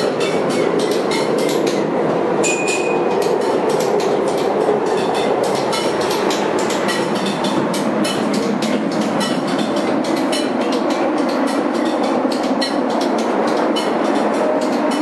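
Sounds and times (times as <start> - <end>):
train rumble inside carriage: 0.0 - 15.0
wheels clattering over rails: 0.0 - 15.0.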